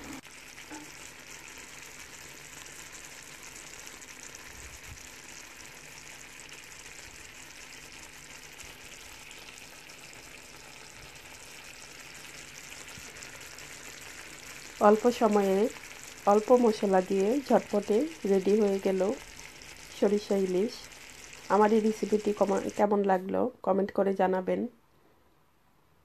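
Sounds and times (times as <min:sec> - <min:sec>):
sauce sizzling and bubbling: 0:00.0 - 0:23.4.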